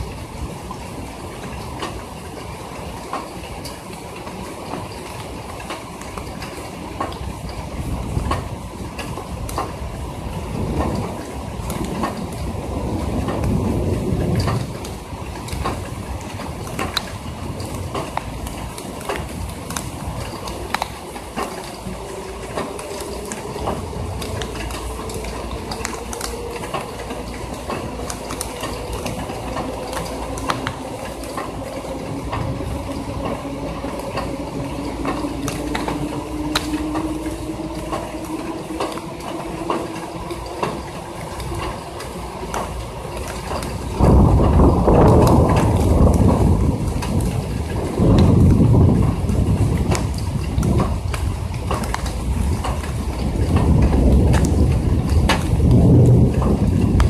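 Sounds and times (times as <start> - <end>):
deep rumble of thunder: 0.0 - 3.1, 6.9 - 57.0
rain pattering on metal: 0.0 - 57.0.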